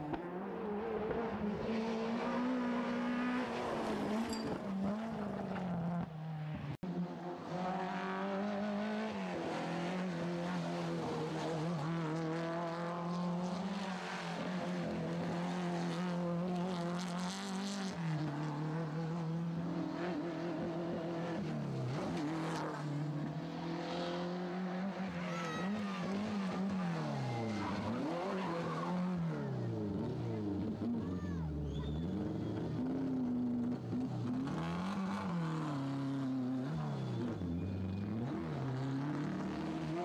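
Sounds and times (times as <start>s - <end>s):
rally car engines revving: 0.0s - 40.0s.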